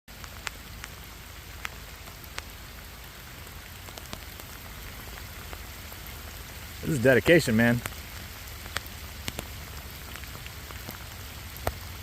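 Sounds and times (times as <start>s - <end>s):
steady rain falling: 0.1s - 12.0s.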